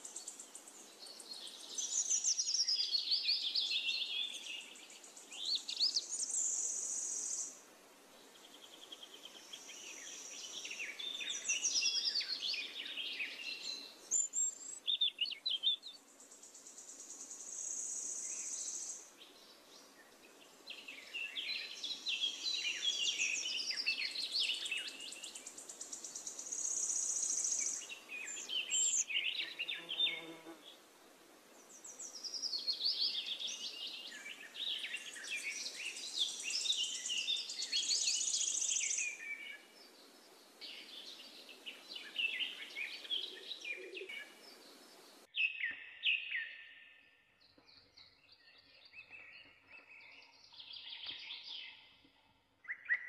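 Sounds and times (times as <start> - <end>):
songbirds chirping and warbling: 0.0 - 53.0.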